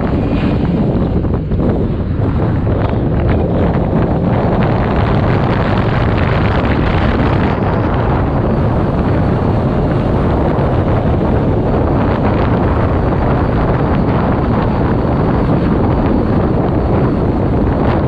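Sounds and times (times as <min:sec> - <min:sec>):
wind buffeting microphone in car: 0:00.0 - 0:18.0.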